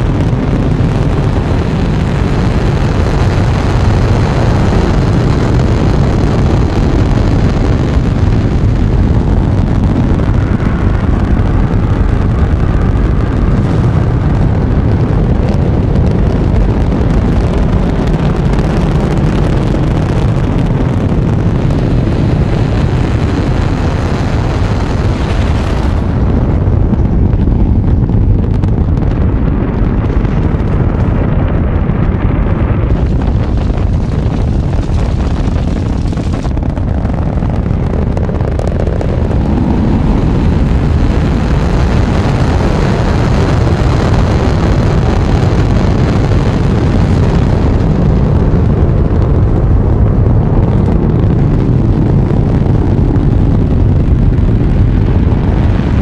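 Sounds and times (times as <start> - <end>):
rocket engines rumbling: 0.0 - 56.0.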